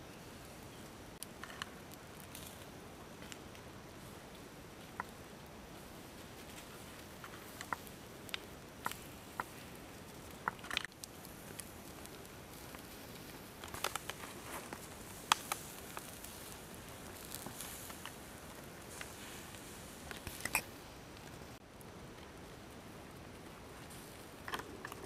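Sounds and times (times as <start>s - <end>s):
faint steady hiss: 0.0s - 25.0s
roasting meat popping and crackling: 0.0s - 25.0s.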